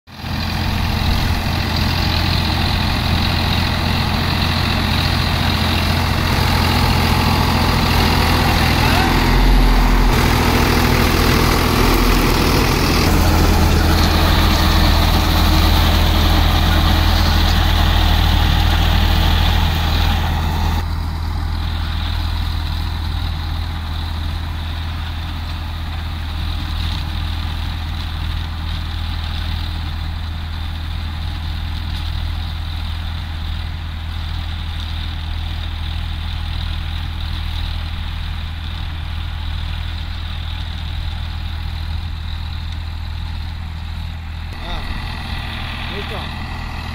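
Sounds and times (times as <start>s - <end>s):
tractor diesel engine running: 0.1s - 46.9s
rotavator blades churning soil: 0.2s - 20.8s, 21.5s - 46.9s.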